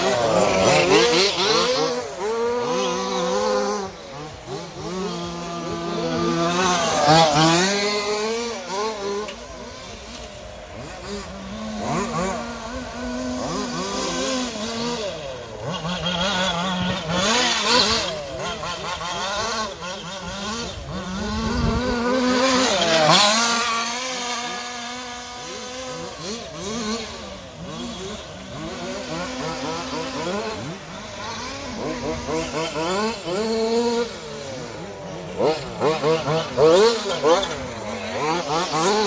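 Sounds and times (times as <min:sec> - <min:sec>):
rc car engines revving: 0:00.0 - 0:39.0.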